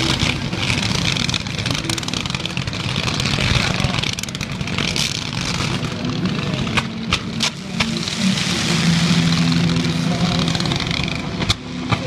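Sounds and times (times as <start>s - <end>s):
fireworks crackling and popping: 0.0s - 12.0s
rushing hiss and low rumble: 0.0s - 12.0s.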